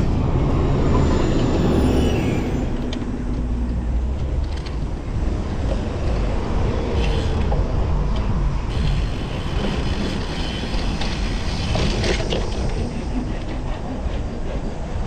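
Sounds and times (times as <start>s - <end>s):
road traffic: 0.0s - 15.0s
wind rumbling on microphone: 0.0s - 15.0s.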